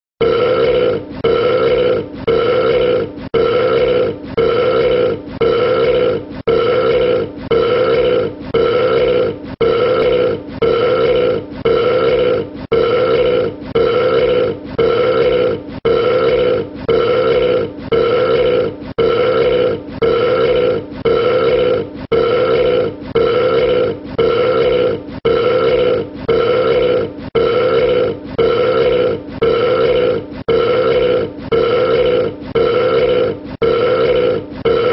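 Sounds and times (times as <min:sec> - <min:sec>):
man belching: 0:00.2 - 0:34.9.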